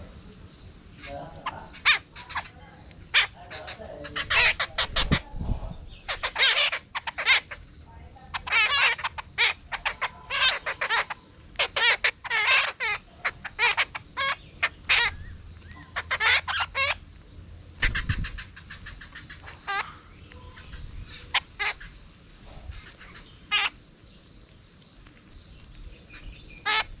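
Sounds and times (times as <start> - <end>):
birds chattering: 0.0 - 27.0.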